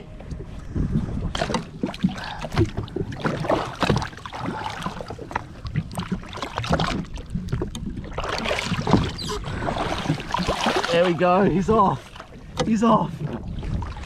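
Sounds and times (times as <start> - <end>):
wind on microphone: 0.0 - 12.0, 13.1 - 14.0
water slapping and splashing: 0.6 - 14.0.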